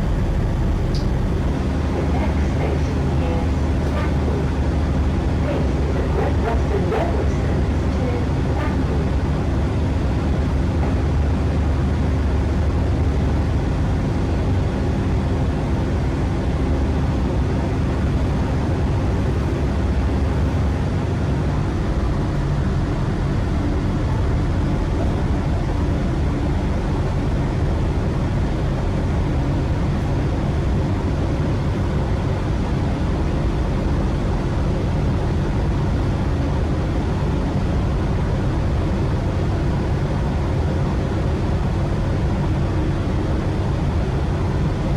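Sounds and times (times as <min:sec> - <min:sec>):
low hum: 0:00.0 - 0:44.9
train rumbling inside carriage: 0:00.0 - 0:44.9.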